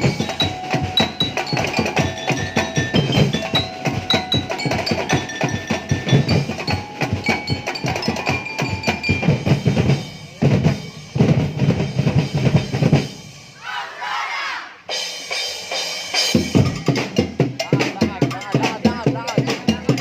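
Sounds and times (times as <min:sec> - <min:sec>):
dance music with drum beat: 0:00.0 - 0:13.6, 0:14.9 - 0:20.0.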